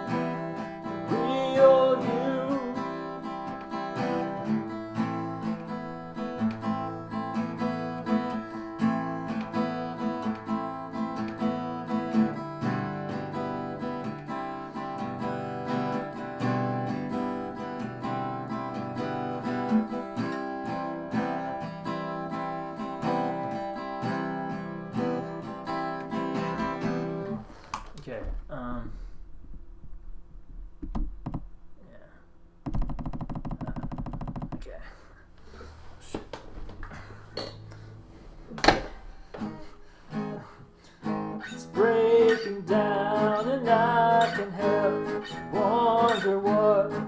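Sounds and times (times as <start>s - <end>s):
acoustic guitar strumming: 0.0s - 34.8s, 35.4s - 47.0s.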